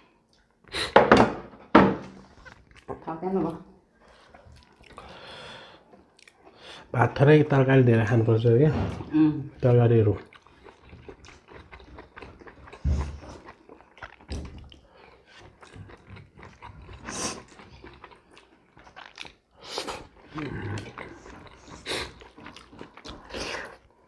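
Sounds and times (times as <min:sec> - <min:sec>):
people chewing and mouth smacks: 0:00.0 - 0:00.9, 0:02.2 - 0:06.9, 0:09.6 - 0:24.0.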